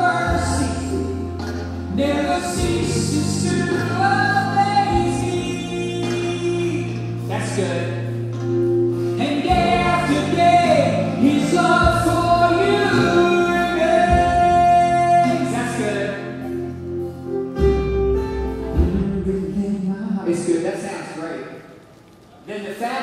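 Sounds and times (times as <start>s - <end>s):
gospel song vocals: 0.0s - 8.2s, 8.9s - 17.0s, 18.7s - 21.0s
bass and keyboard chords: 0.0s - 20.5s.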